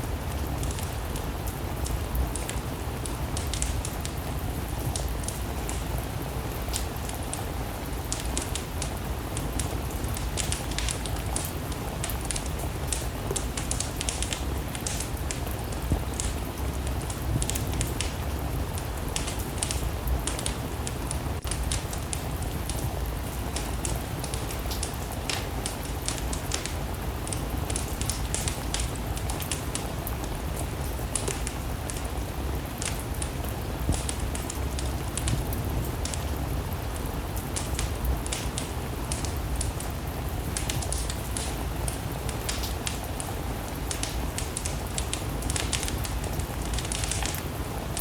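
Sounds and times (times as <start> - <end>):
rain hissing: 0.0 - 48.0
wood fire crackling and popping: 0.0 - 48.0.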